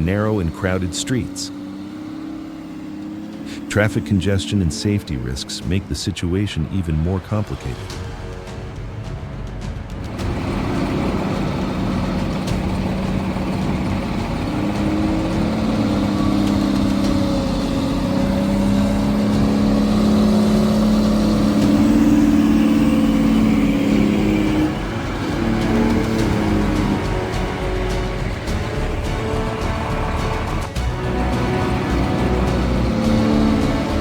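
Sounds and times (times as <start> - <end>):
truck engine revving: 0.0 - 9.2, 9.8 - 34.0.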